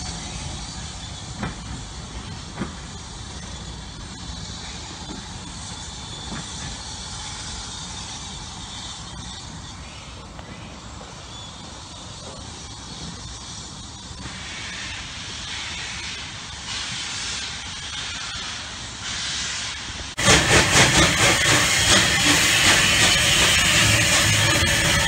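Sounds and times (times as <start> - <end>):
steady rushing noise: 0.0 - 25.0
steam hissing: 0.0 - 25.0
steam locomotive exhaust beats: 0.0 - 25.0.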